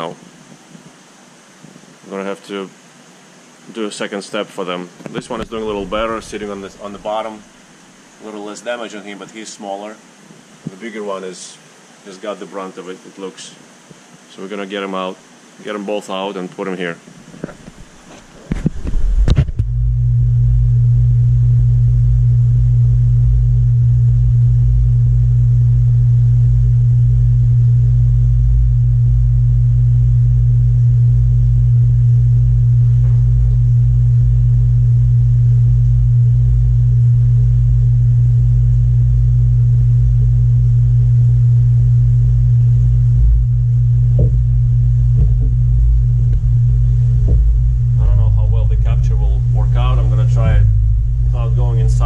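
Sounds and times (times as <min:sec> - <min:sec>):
low machine hum: 0:00.0 - 0:11.3, 0:17.4 - 0:52.0.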